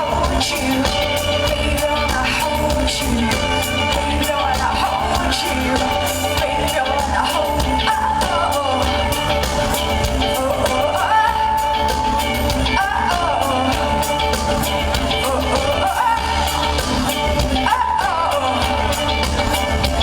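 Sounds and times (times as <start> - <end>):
electronic pop band playing live: 0.0 - 20.0.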